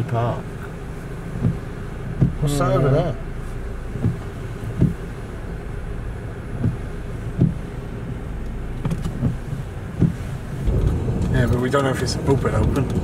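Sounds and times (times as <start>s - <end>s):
engine and road rumble: 0.0s - 13.0s
short low thumps: 0.4s - 13.0s.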